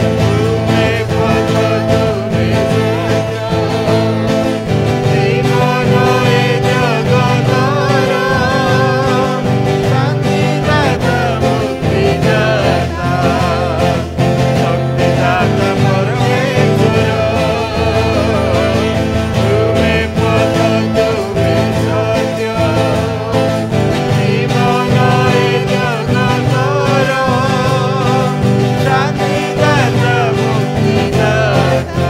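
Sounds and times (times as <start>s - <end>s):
man singing worship song: 0.0s - 32.0s
twelve-string acoustic guitar: 0.0s - 32.0s.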